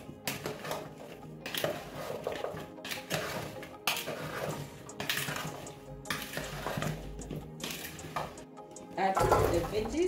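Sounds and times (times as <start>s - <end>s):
spoon scraping plastic bowl: 0.0s - 10.0s.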